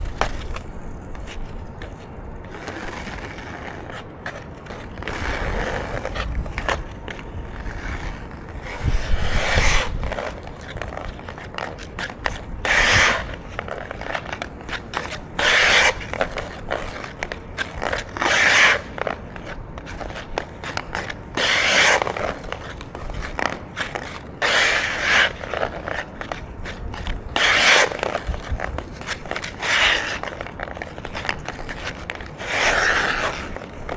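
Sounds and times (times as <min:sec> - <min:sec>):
ice skates scraping on ice: 0:00.0 - 0:33.9.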